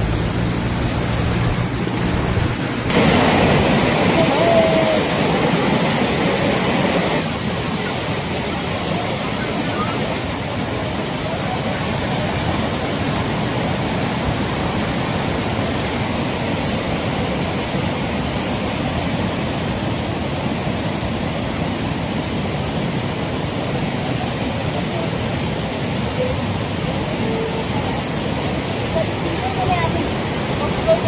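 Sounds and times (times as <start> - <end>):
fast water rushing: 0.0 - 31.0.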